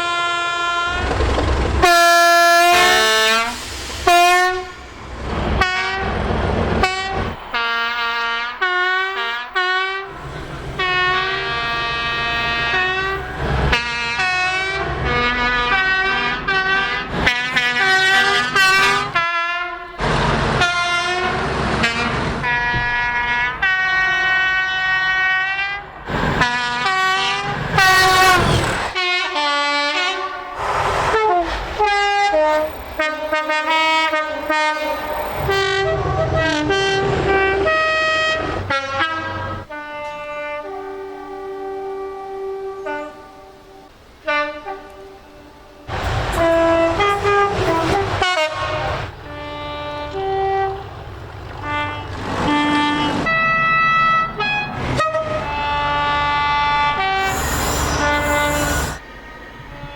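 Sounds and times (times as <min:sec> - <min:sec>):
train horn blasts: 0:00.0 - 0:01.2, 0:01.8 - 0:20.0, 0:20.6 - 0:30.6, 0:31.2 - 0:59.9
train rumble: 0:00.6 - 0:59.9.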